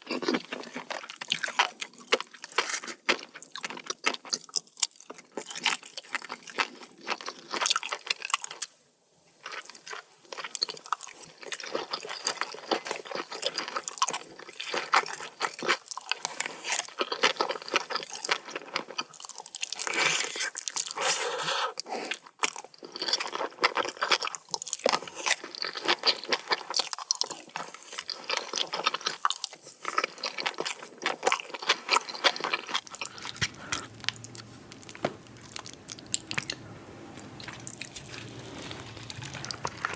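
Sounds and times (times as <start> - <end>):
crunching and chewing crab: 0.0 - 8.8, 9.4 - 39.9.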